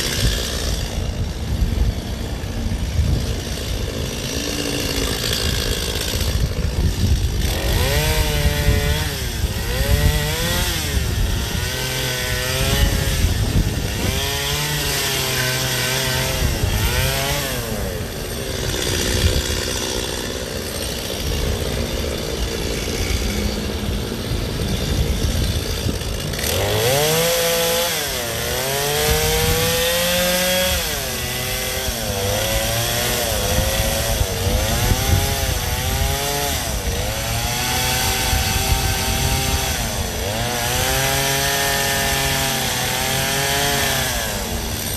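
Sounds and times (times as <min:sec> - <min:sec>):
chainsaw revving cutting ice: 0:00.0 - 0:44.9.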